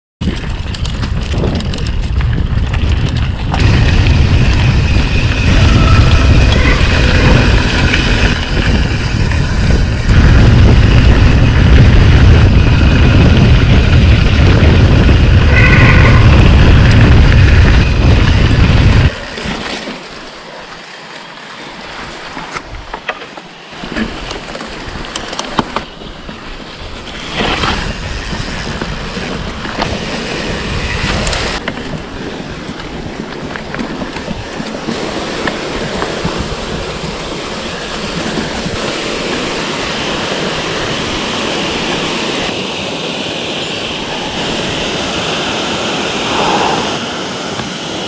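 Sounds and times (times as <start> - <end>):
wind buffeting microphone: 0.2 - 19.6, 24.0 - 42.6, 43.7 - 48.0
bike rattling over gravel: 0.2 - 42.6.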